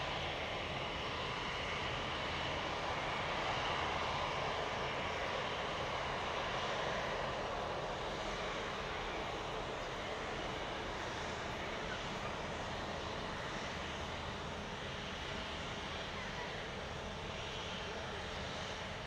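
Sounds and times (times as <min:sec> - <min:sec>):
airliner engines running: 0:00.0 - 0:19.0.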